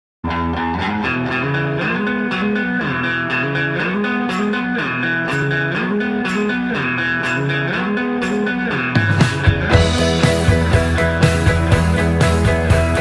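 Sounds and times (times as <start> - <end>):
guitar background music: 0.2 - 13.0.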